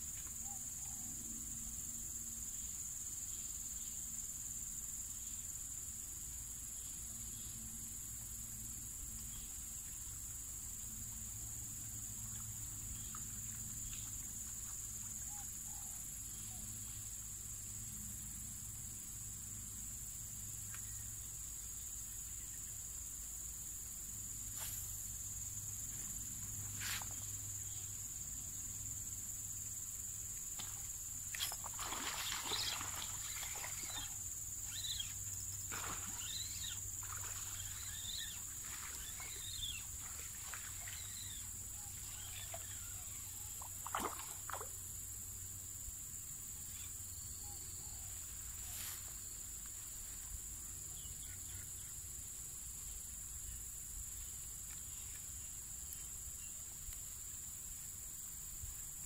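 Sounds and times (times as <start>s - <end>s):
high-pitched insect drone: 0.0s - 49.4s.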